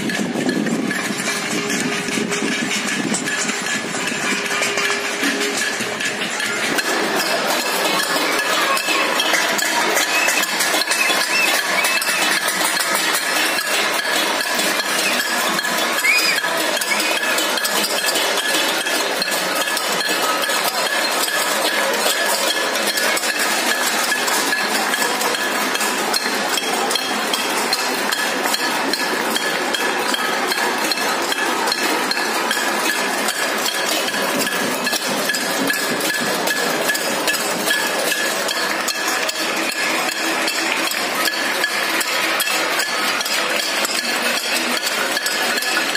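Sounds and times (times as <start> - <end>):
banging steel plates and utensils: 0.0 - 45.9
metallic ringing tones: 0.0 - 45.9
people clapping: 1.3 - 45.9.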